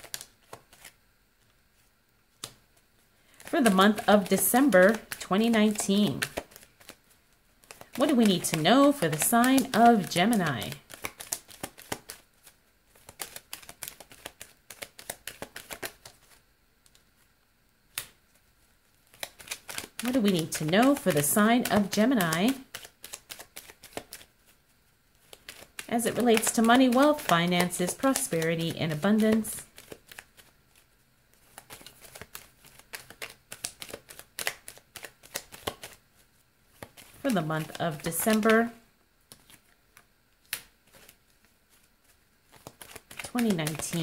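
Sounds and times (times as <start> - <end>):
cards being shuffled: 0.0 - 17.3, 17.9 - 44.0.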